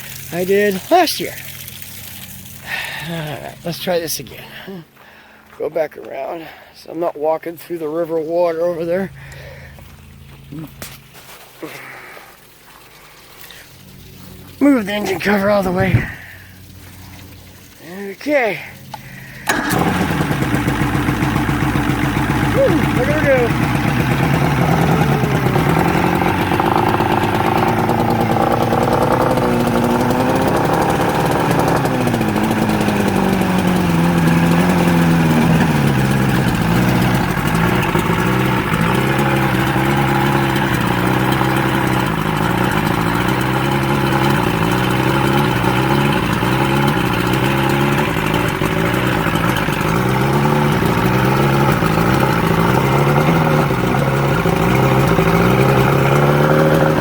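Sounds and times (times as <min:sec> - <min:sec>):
outboard engine idling: 0:00.0 - 0:05.6, 0:06.4 - 0:57.0.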